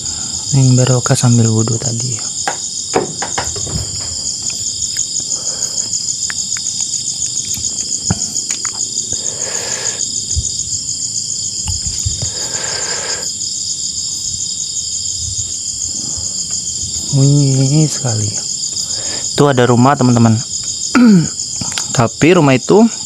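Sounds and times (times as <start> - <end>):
insects trilling: 0.0 - 23.0
low rasping insect calls: 0.0 - 23.0.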